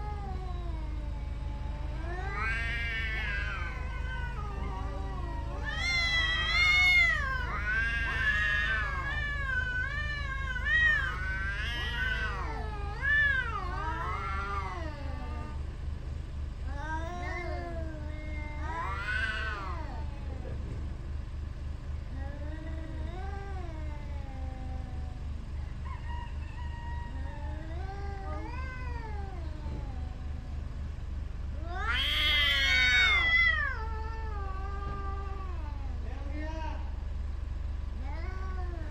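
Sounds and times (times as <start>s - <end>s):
cats yowling: 0.0s - 21.0s, 22.0s - 36.9s, 37.9s - 38.9s
steady low hum: 0.0s - 38.9s.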